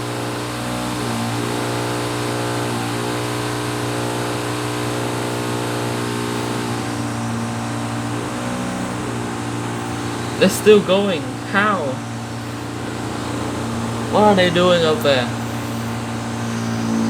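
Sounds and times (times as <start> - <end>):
motor-driven machine drone: 0.0 - 17.0.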